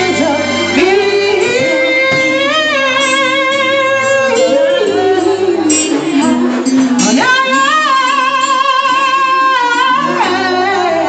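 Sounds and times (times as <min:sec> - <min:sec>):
band with guitar: 0:00.0 - 0:11.0.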